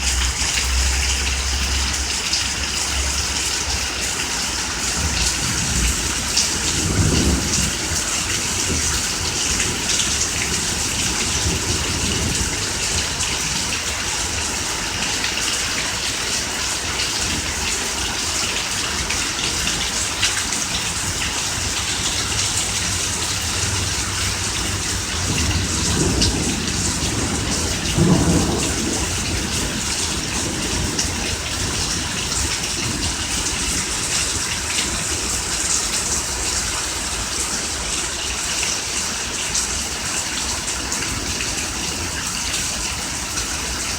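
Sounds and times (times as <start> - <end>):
thunder rumbling: 0.0 - 37.3
heavy rain: 0.0 - 43.9.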